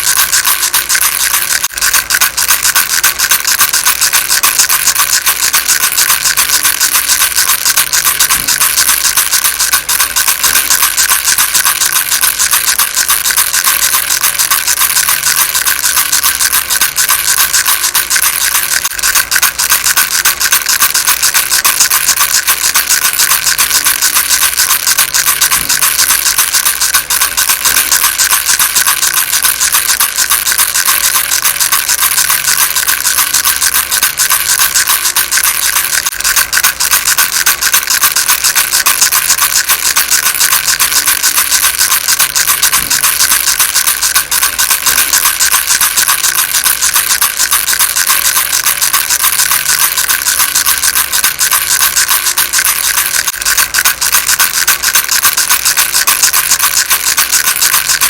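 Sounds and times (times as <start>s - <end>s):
baby rattle shaking: 0.0s - 58.0s.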